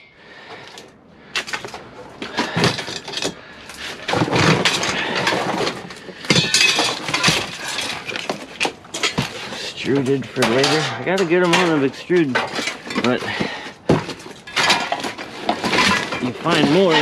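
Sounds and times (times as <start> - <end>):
scrap metal clattering: 0.4 - 17.0.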